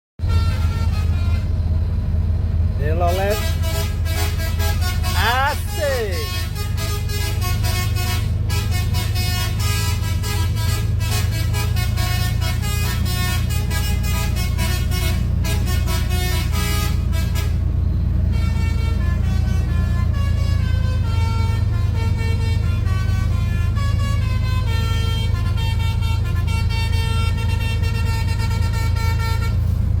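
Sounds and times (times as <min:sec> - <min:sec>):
truck engine low rumble: 0:00.2 - 0:30.0
truck musical horn tune: 0:00.2 - 0:30.0.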